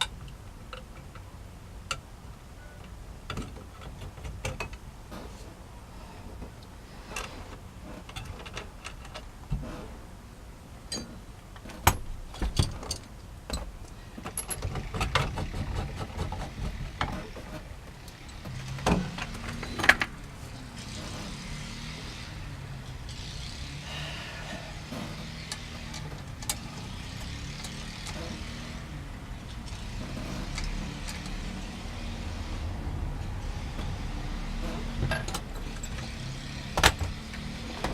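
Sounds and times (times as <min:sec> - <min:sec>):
tools and parts clattering: 0:06.3 - 0:09.9, 0:10.9 - 0:37.9.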